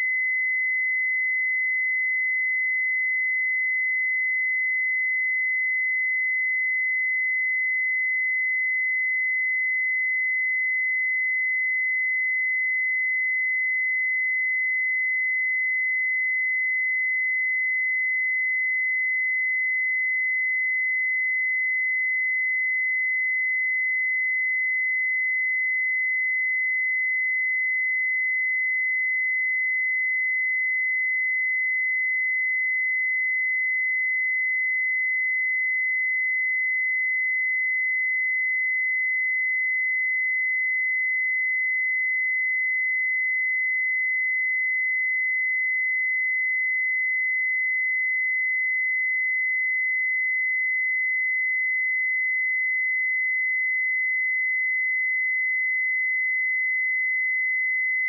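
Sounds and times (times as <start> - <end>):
high-pitched sine tone: 0.0 - 58.0.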